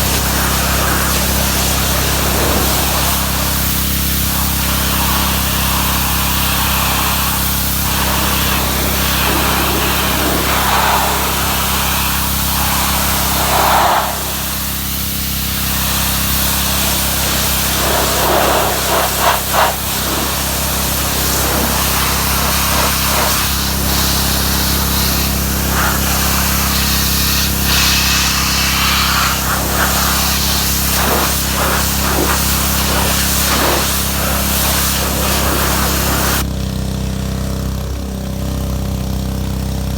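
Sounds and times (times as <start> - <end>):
water jet hissing: 0.0 - 36.5
pressure washer motor drone: 0.0 - 39.9.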